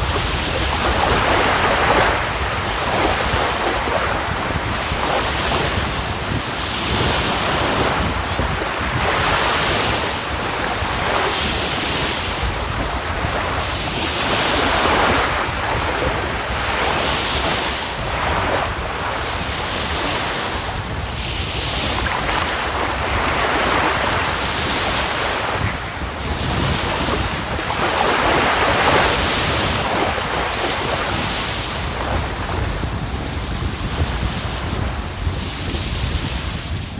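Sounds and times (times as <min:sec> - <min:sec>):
surf washing onto shore: 0:00.0 - 0:36.9
wind rumbling on microphone: 0:00.0 - 0:36.9.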